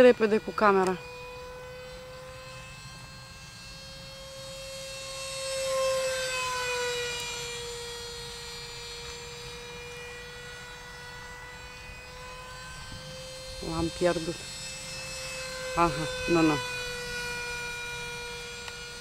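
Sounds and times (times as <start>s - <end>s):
electric ducted fan whine: 0.0s - 19.0s.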